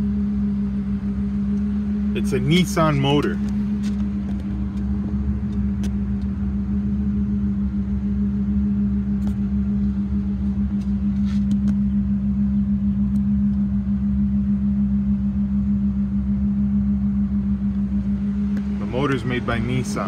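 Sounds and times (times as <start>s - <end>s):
engine idling: 0.0s - 20.0s
strong steady hum: 0.0s - 20.0s.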